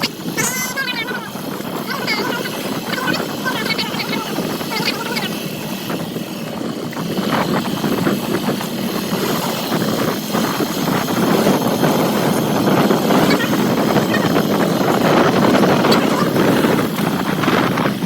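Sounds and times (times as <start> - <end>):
motor engine droning: 0.0 - 18.0.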